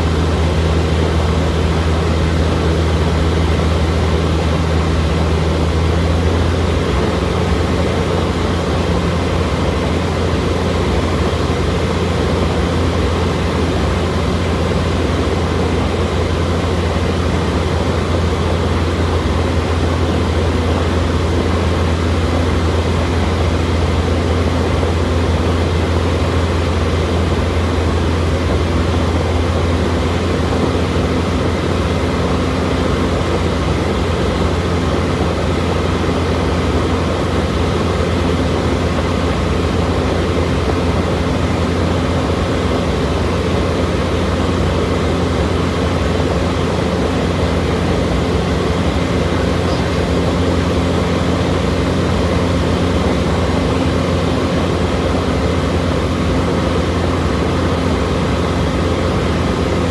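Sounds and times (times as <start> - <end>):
propeller airplane engine drone: 0.0 - 59.9.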